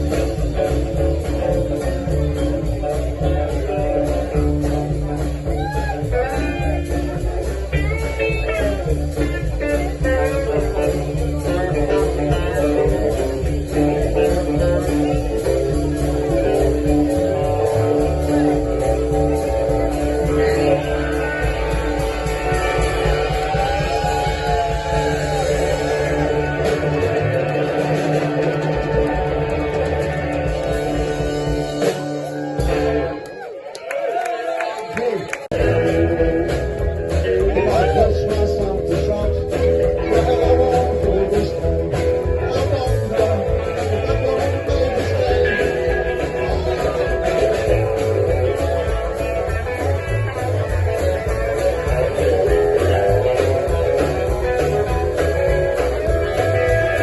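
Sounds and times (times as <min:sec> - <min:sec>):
guitar lead with bent notes: 0:00.0 - 0:33.7, 0:35.4 - 0:57.0
live blues band playing: 0:00.0 - 0:57.0.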